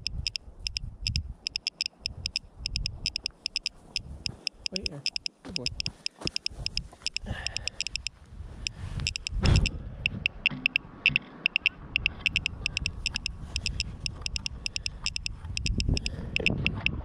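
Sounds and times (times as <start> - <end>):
low wind rumble: 0.0 - 4.8, 5.6 - 17.0
rapid high clicking: 0.0 - 8.1, 9.0 - 17.0.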